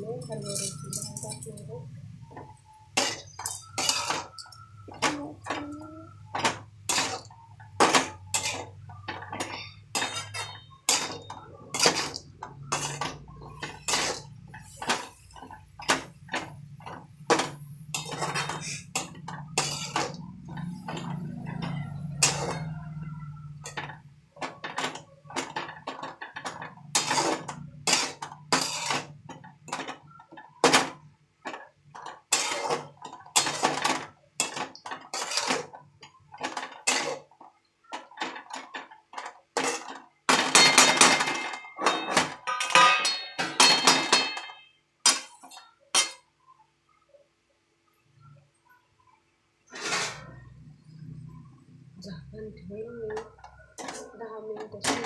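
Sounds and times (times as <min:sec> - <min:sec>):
metal spatula scraping a pan: 0:02.3 - 0:46.3, 0:49.7 - 0:51.3.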